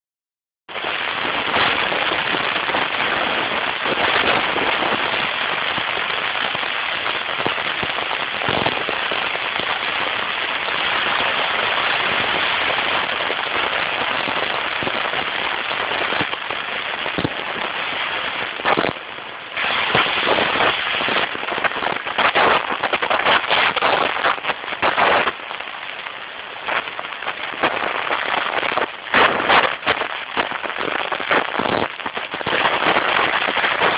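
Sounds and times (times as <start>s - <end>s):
wind rushing over microphone: 0.7s - 33.9s.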